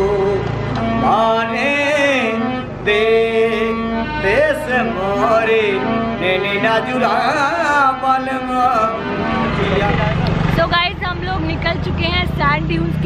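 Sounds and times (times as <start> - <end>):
harmonium: 0.0 - 13.0.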